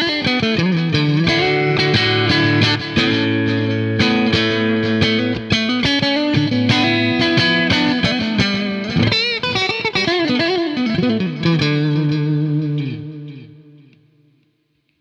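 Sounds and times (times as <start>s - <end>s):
electric guitar lead line: 0.0s - 14.2s.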